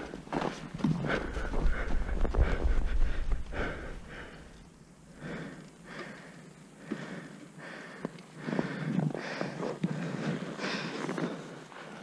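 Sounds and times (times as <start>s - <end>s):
person breathing hard: 0.9s - 12.0s.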